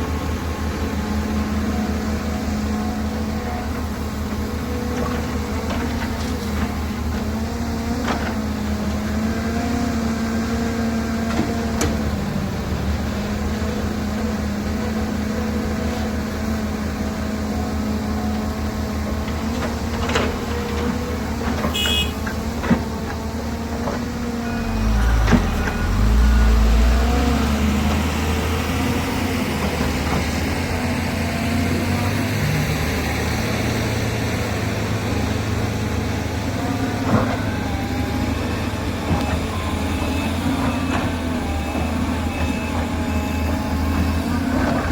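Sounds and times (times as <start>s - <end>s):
diesel excavator engine running: 0.0s - 44.9s.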